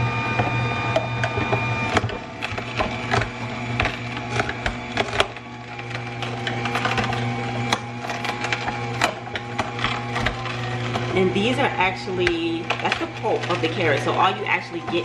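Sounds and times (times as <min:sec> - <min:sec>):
juicer motor hum: 0:00.0 - 0:15.0.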